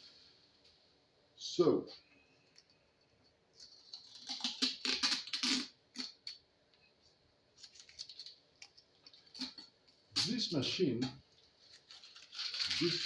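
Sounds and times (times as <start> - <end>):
objects handled with rustles and clicks: 1.9 - 13.0.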